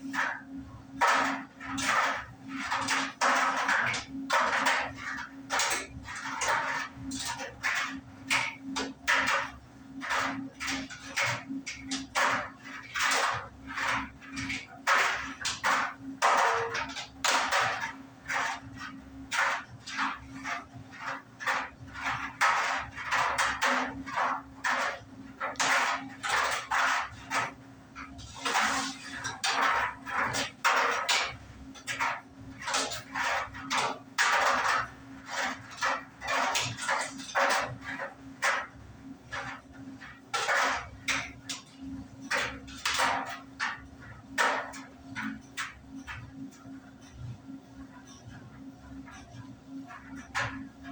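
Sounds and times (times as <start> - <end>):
clothes dryer motor hum: 0.0 - 50.9.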